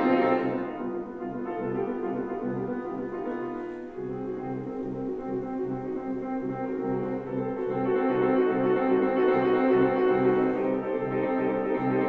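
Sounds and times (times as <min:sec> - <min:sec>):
grand piano prelude: 0:00.0 - 0:12.0.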